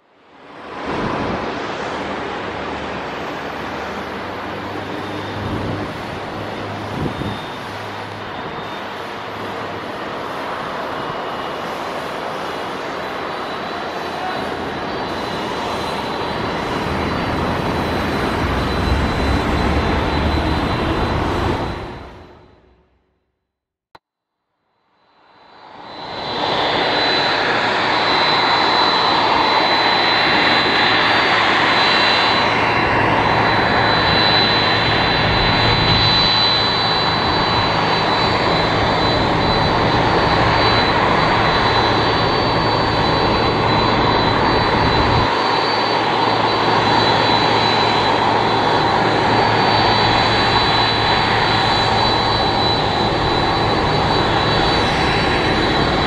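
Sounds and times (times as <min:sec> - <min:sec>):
high turbine whine: 0:00.0 - 0:23.0, 0:24.8 - 0:56.0
jet engine rumble: 0:00.2 - 0:23.0, 0:25.2 - 0:56.0.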